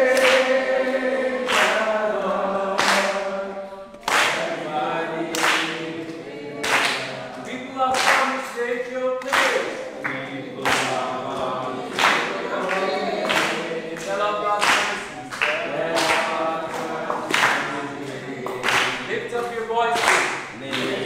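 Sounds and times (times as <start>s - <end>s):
sharp hand clap: 0.0s - 2.1s, 2.7s - 3.3s, 3.9s - 21.0s
children singing: 0.0s - 21.0s.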